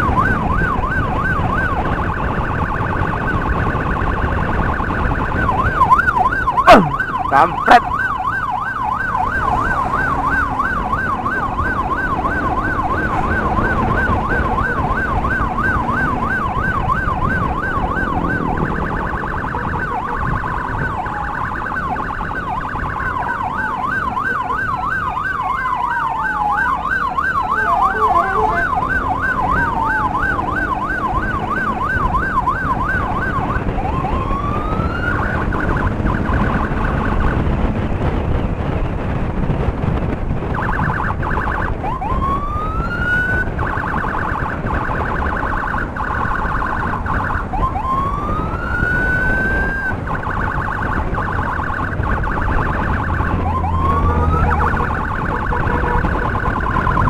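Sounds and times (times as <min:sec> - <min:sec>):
siren yelping: 0:00.0 - 0:37.7, 0:40.3 - 0:57.0
second siren falling sweeps: 0:00.0 - 0:37.8, 0:40.5 - 0:57.0
motorcycle wind and engine rumble: 0:00.0 - 0:57.0.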